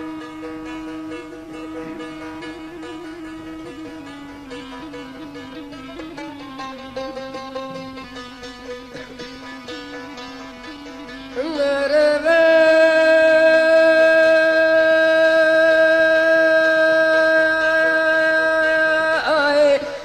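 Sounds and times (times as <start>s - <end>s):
quiet accompaniment: 0.0s - 18.2s
person singing folk song: 0.0s - 20.0s.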